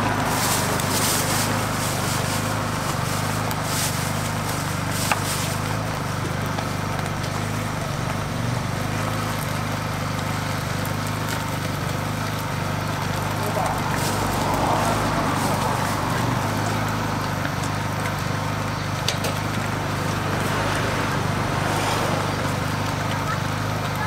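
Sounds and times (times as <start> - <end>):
eggs sizzling on griddle: 0.0 - 24.0.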